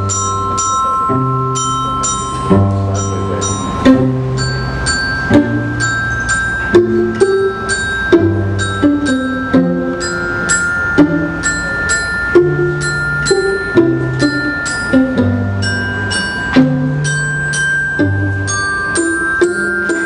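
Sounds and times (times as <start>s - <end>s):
held string notes: 0.0s - 20.0s
mallet percussion notes: 0.0s - 20.0s
bowed cello: 2.4s - 6.1s, 6.7s - 20.0s.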